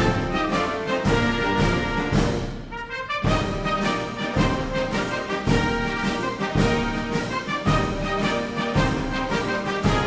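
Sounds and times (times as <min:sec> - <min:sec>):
orchestral music with brass: 0:00.0 - 0:10.0.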